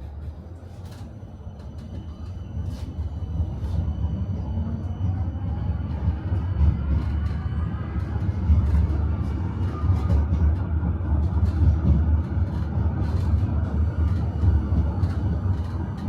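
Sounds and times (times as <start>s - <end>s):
tram wheels and motors rumbling: 0.0s - 16.0s.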